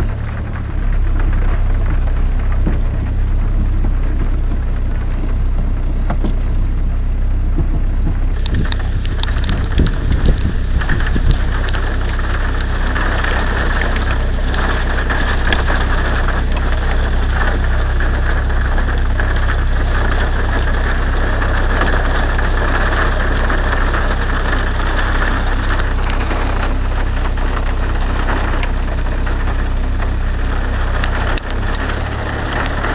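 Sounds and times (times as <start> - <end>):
heavy rain falling: 0.0 - 32.9
low rumble: 0.0 - 32.9.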